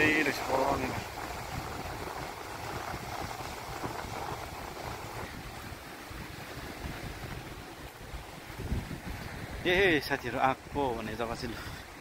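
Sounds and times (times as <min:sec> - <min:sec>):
open-air noise by the sea: 0:00.0 - 0:12.0
wind gusting on microphone: 0:00.0 - 0:12.0.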